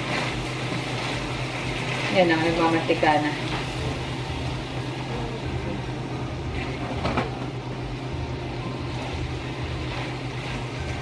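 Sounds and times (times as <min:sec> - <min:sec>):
meat sizzling in a pan: 0:00.0 - 0:11.0
steady low hum: 0:00.0 - 0:11.0.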